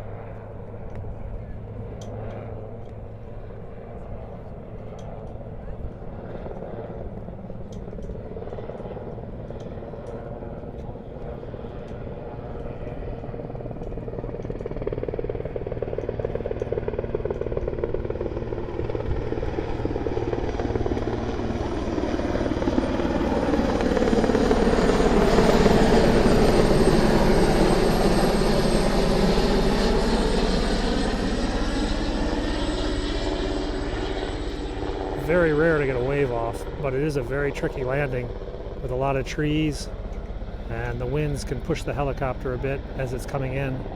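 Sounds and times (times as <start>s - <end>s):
helicopter flying past: 0.0s - 43.9s.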